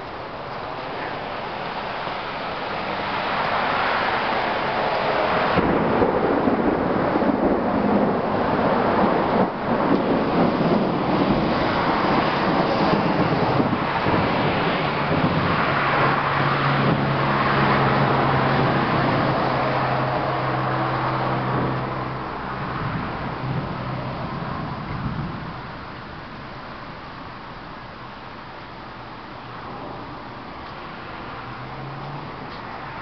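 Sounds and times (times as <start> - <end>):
low engine hum: 0.0 - 33.0
road noise: 0.0 - 33.0.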